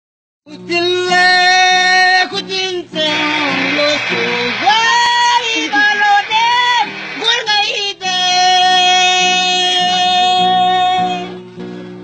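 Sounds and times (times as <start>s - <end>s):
man singing in a high voice: 0.5s - 11.4s
acoustic guitar strumming: 0.6s - 12.0s.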